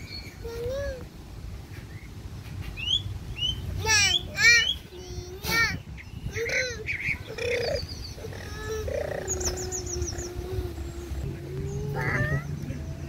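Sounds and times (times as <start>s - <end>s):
small birds chirping: 0.0s - 1.0s, 1.6s - 13.0s.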